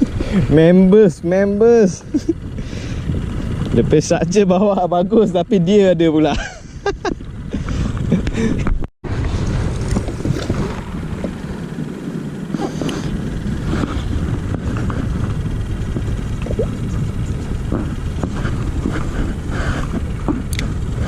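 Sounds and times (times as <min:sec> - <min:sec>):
wind rumbling on microphone: 0:01.6 - 0:05.6, 0:06.6 - 0:21.0.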